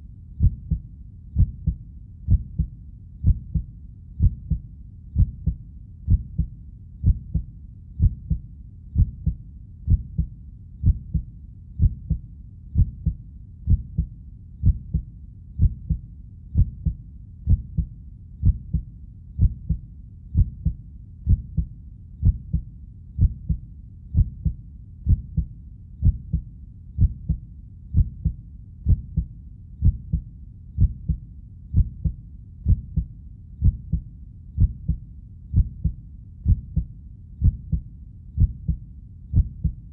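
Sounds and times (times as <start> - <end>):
heartbeat thumps: 0.4 - 8.4, 9.0 - 12.2, 12.8 - 39.8.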